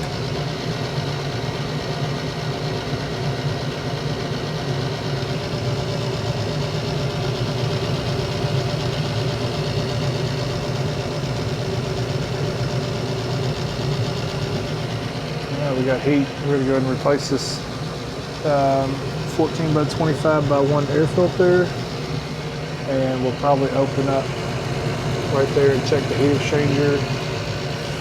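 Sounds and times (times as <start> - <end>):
furnace blower hum with rushing air: 0.0 - 28.0.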